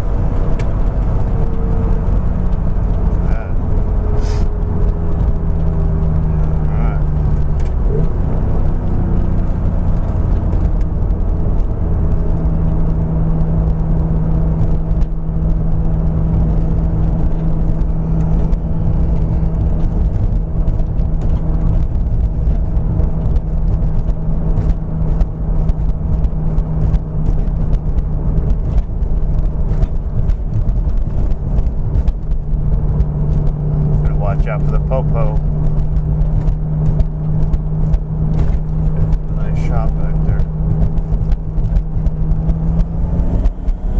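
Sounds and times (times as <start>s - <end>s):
car engine cruising: 0.0s - 43.9s
road rumble: 0.0s - 43.9s.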